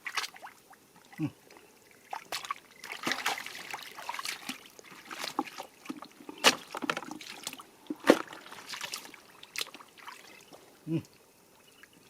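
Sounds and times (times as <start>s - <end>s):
water splashing and sloshing: 0.0s - 11.9s.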